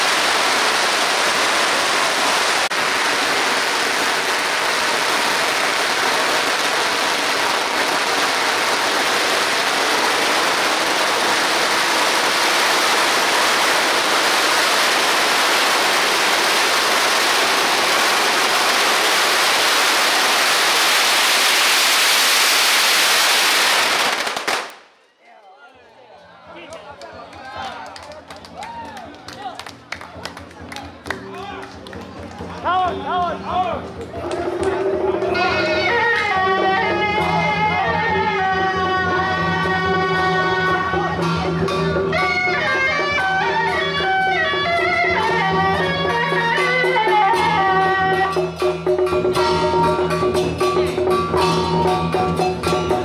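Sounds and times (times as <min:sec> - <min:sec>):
firecrackers crackling: 0:00.0 - 0:25.0, 0:33.9 - 0:53.0.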